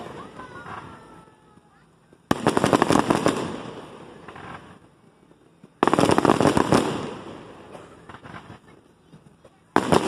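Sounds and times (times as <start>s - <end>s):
fireworks crackling: 0.0s - 10.0s.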